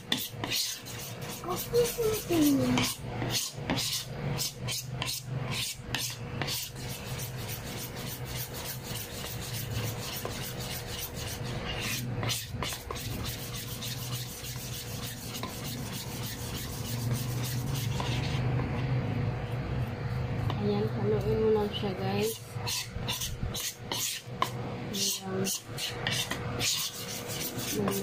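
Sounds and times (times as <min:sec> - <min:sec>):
utensil scraping batter bowl: 0:00.0 - 0:18.9, 0:19.5 - 0:28.0.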